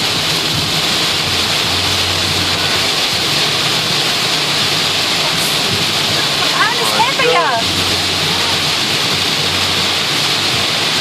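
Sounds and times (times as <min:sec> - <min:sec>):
car engine and tyres hum: 0:00.0 - 0:11.0
heavy rain pounding on car: 0:00.0 - 0:11.0.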